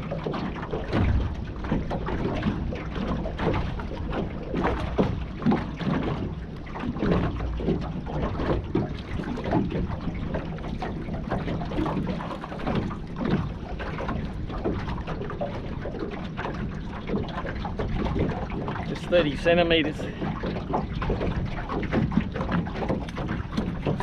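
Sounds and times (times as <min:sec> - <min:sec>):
water sloshing and splashing: 0:00.0 - 0:24.0
wind rumbling on microphone: 0:00.0 - 0:24.0.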